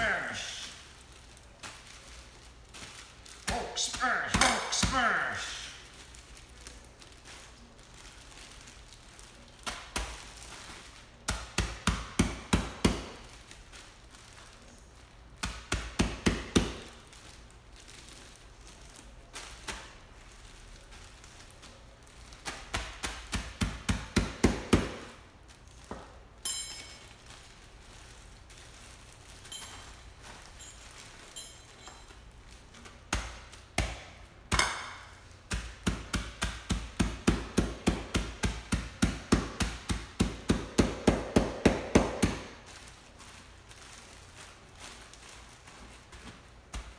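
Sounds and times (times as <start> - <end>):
pretzels in a bag being pounded: 0.0 - 14.6, 15.2 - 46.9.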